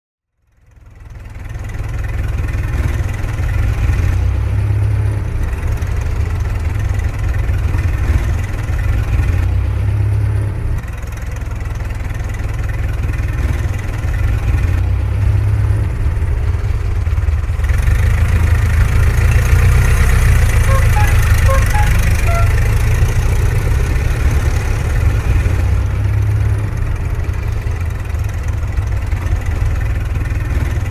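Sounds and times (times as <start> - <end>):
car engine rumbling: 1.1 - 30.9.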